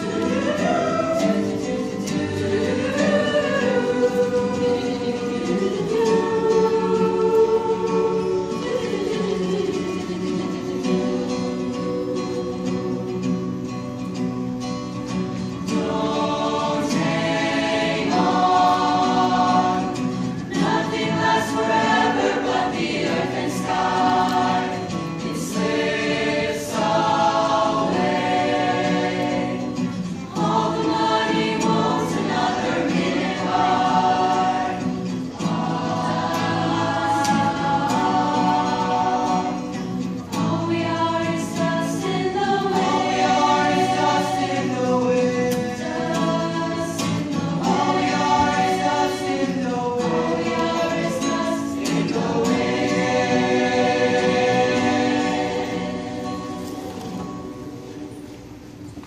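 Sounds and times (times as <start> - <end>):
choir singing in harmony: 0.0 - 58.1
fingerpicked acoustic guitar: 0.0 - 59.0.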